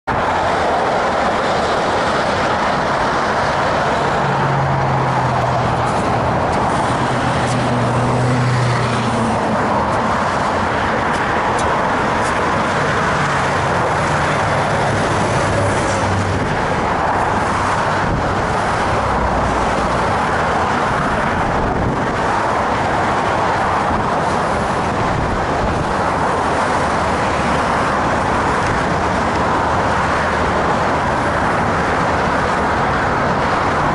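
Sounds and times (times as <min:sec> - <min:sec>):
car traffic on a bridge: 0:00.0 - 0:33.9
heavy vehicle passing: 0:00.1 - 0:33.9.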